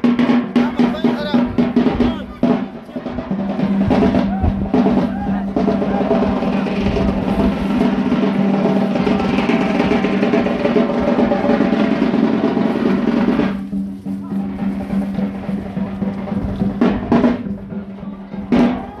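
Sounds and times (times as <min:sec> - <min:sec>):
drum rolls and beats: 0:00.0 - 0:19.0.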